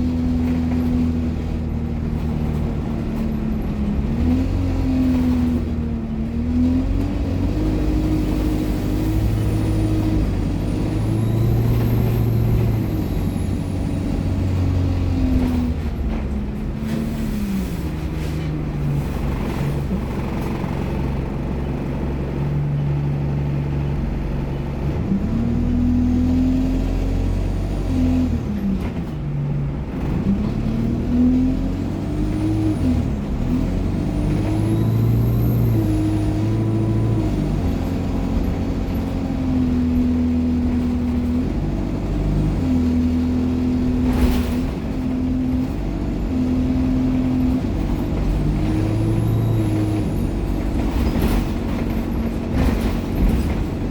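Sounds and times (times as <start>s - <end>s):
bus engine changing gears: 0.0s - 53.9s.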